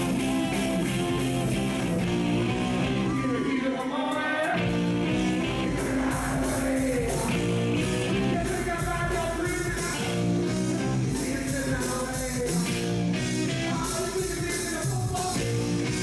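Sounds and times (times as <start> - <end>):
live rock band playing: 0.0 - 3.5, 4.4 - 16.0
man singing lead: 3.0 - 16.0.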